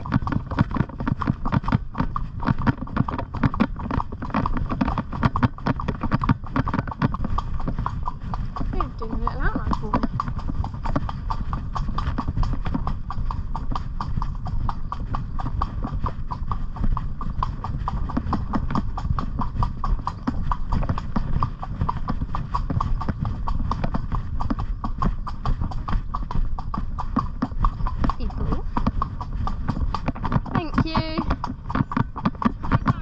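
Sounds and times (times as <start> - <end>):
hooves clip-clopping: 0.0 - 33.0.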